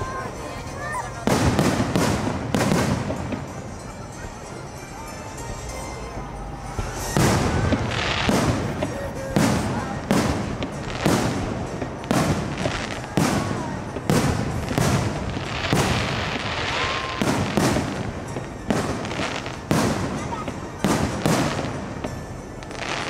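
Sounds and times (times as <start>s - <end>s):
fireworks bursting with echoing bangs: 0.0s - 4.4s, 6.6s - 23.0s
fireworks crackling: 0.0s - 23.0s.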